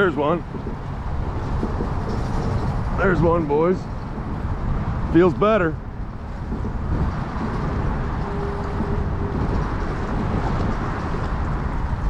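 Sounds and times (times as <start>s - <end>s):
choppy water around boat: 0.0s - 12.0s
wind on microphone: 0.0s - 12.0s.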